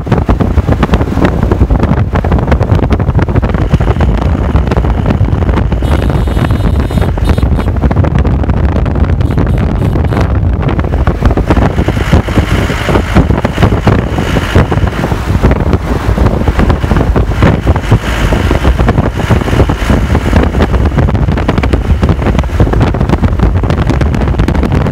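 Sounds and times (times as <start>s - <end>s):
vehicle rumble on paved road: 0.0s - 24.9s
wind buffeting microphone: 0.0s - 24.9s.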